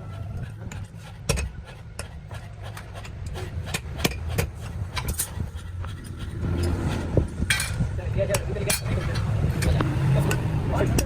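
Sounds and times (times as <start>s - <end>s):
hand tools knocking on metal: 0.6s - 11.0s.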